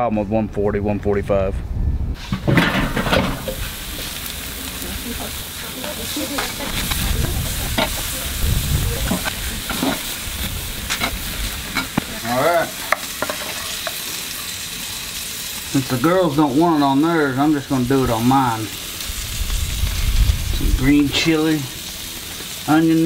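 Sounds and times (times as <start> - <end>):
patties sizzling on grill: 2.2 - 23.0.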